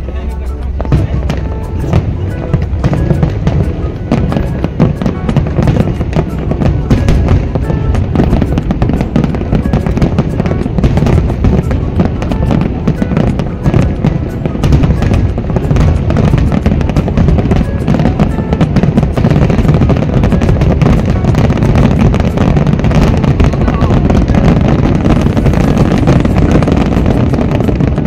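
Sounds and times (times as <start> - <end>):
fireworks booming: 0.0 - 28.0
fireworks crackling: 0.0 - 28.0
music playing: 0.0 - 28.0.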